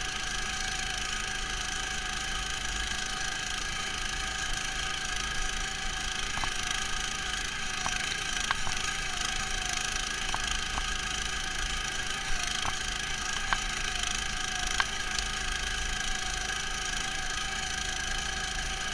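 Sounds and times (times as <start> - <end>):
muffled tractor engine running: 0.0 - 18.9.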